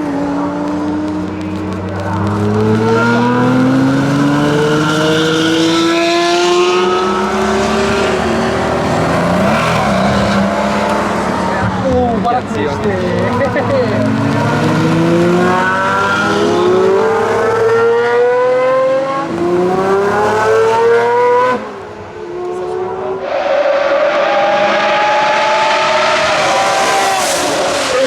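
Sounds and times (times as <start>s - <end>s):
car engine accelerating hard: 0.0s - 23.2s, 23.8s - 28.0s.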